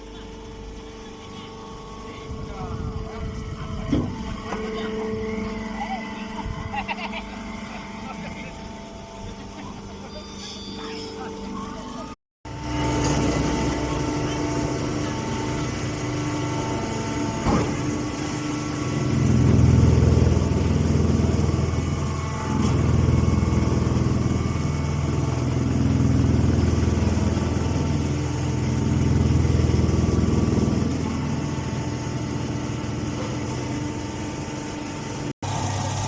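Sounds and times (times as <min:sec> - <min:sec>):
hay baler motor hum: 0:00.0 - 0:36.0.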